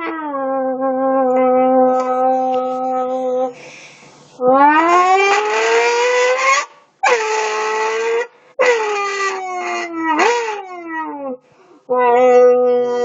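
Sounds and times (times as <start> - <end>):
person imitating car noises: 0.0 - 13.0.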